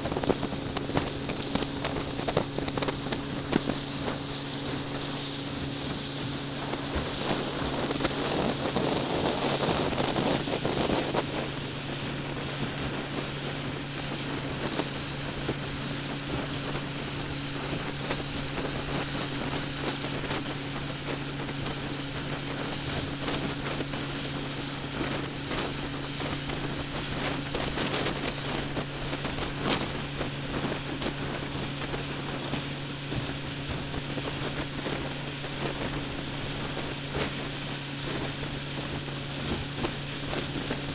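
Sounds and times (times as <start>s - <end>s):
boat engine droning: 0.0s - 40.9s
wind on microphone: 0.0s - 40.9s.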